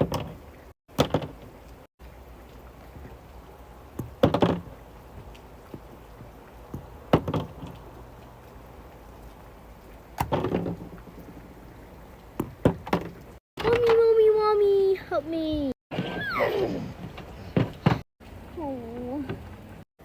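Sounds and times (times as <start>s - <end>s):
rain falling: 0.0s - 13.4s, 16.7s - 19.8s.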